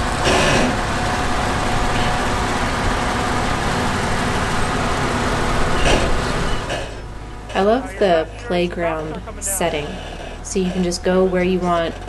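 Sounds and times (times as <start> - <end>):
faint steady whine: 0.0 - 12.0
vehicle engine running at low revs: 0.0 - 12.0.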